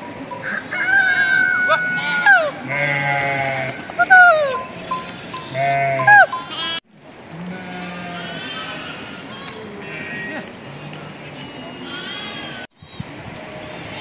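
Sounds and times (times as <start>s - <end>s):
sheep and goats bleating: 0.3s - 14.0s.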